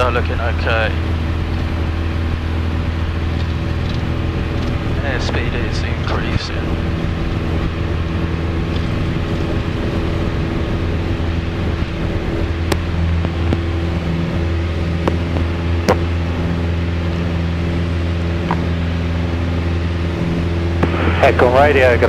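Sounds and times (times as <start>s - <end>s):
propeller plane engine drone: 0.0s - 22.0s.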